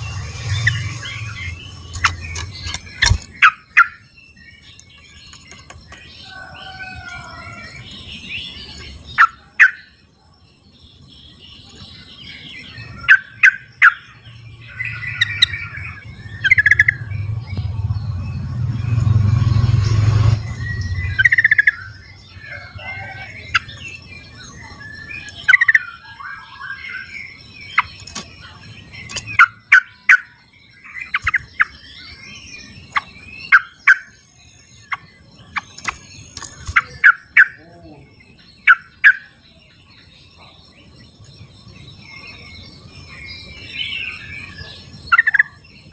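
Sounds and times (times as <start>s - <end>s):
low rumbling noise: 0.0s - 9.2s, 10.7s - 45.9s
bulbuls chirping: 0.0s - 45.9s.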